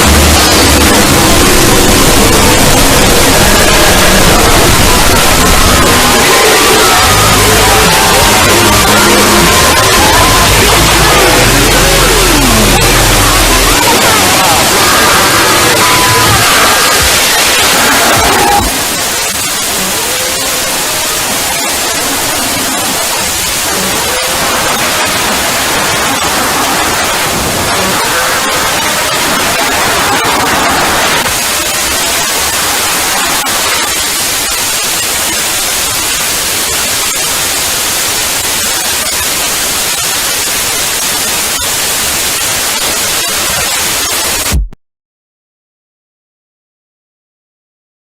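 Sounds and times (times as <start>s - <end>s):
harsh static hiss: 0.0s - 44.7s.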